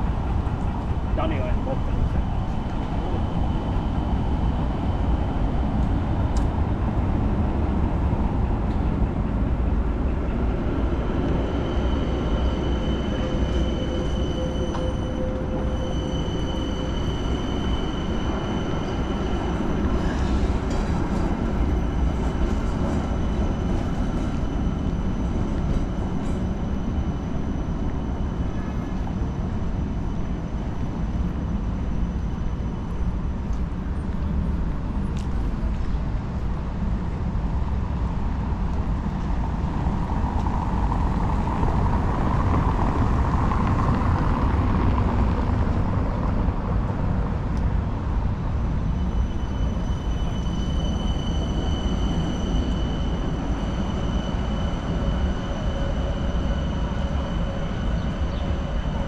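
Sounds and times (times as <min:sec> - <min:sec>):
low rumble of trams and traffic: 0:00.0 - 0:59.0.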